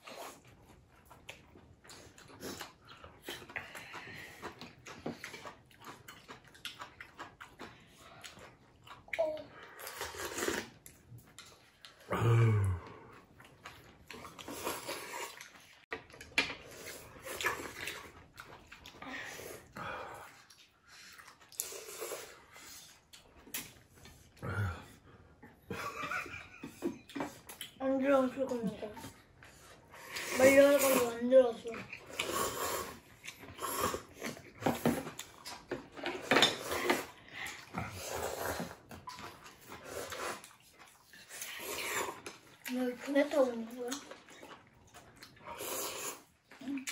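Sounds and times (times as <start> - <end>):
noodles slurped and chewed: 0.0 - 46.9.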